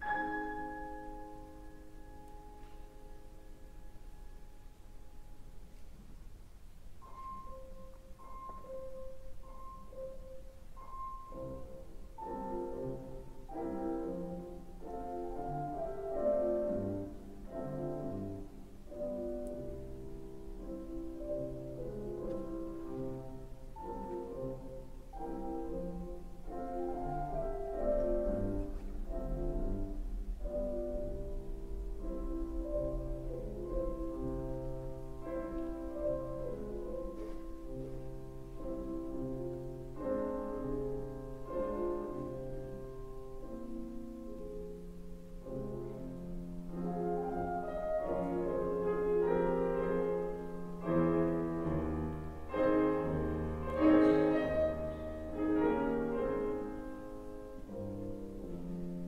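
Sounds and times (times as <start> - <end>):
slow classical piano piece: 0.0 - 59.0.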